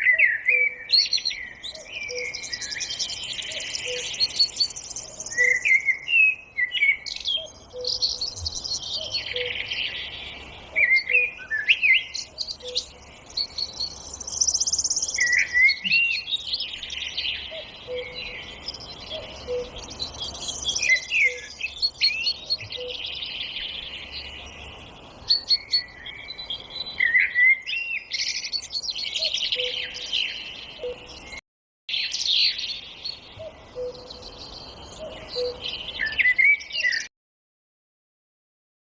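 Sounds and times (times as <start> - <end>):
songbirds chorus: 0.0 - 37.1.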